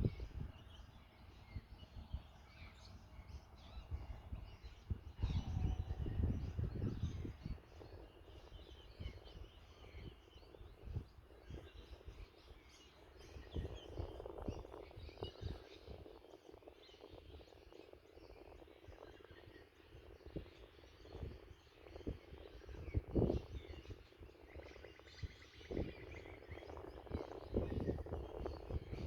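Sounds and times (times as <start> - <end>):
small bird chirps: 0.0 - 29.0
wind buffeting microphone: 0.0 - 29.0.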